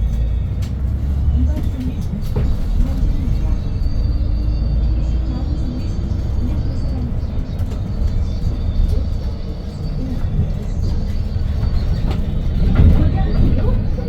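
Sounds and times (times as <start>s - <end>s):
bus engine low rumble: 0.0s - 14.0s
rattles and clicks: 0.0s - 14.0s.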